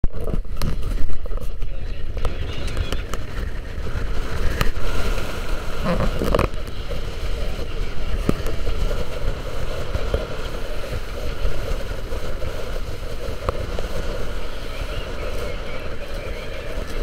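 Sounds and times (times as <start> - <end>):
wind buffeting microphone: 0.0 - 17.0
water rushing past hull: 2.2 - 17.0.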